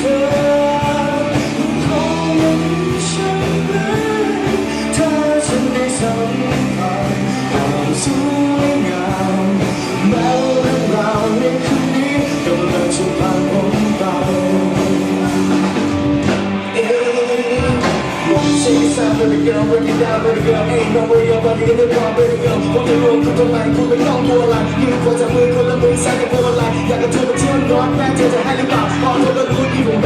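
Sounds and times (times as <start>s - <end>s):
rock pop song with guitar: 0.0s - 30.0s.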